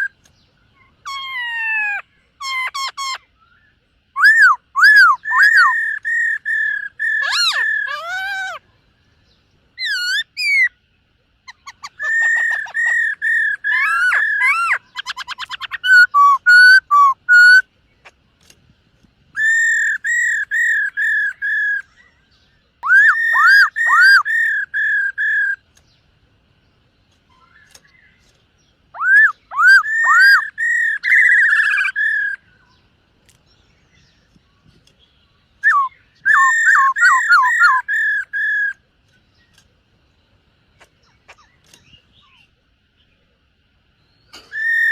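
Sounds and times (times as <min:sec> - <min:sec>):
bird singing whistled notes: 0:00.0 - 0:10.8, 0:11.4 - 0:17.7, 0:19.3 - 0:26.0, 0:27.3 - 0:32.9, 0:33.5 - 0:43.2, 0:43.9 - 0:44.9.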